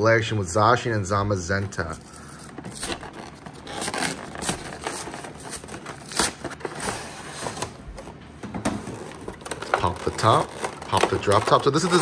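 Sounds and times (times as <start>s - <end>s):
plastic shrink wrap crinkling: 1.7s - 8.2s, 8.8s - 12.0s.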